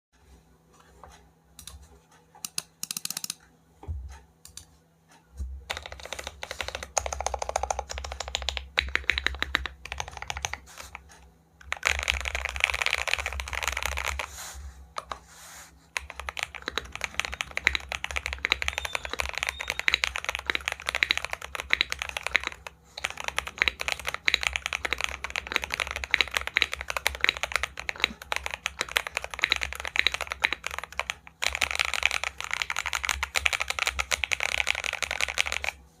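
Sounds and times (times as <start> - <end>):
mechanical keyboard typing: 2.4 - 3.4, 5.6 - 14.3, 15.9 - 35.8.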